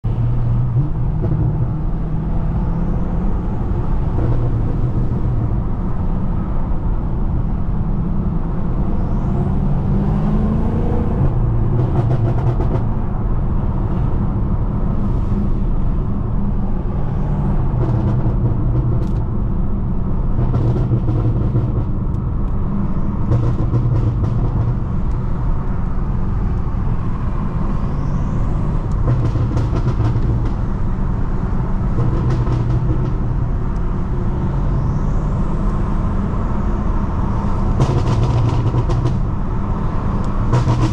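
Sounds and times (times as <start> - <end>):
car engine drone in cabin: 0.0 - 40.9.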